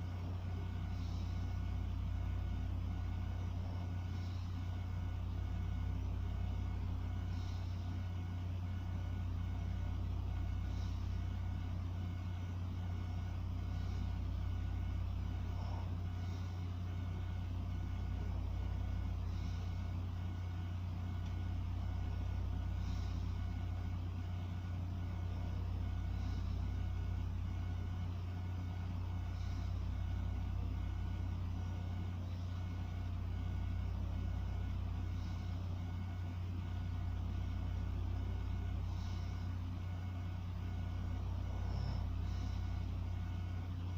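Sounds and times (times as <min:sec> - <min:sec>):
steady low hum: 0:00.0 - 0:43.9
person breathing slowly: 0:00.1 - 0:43.9.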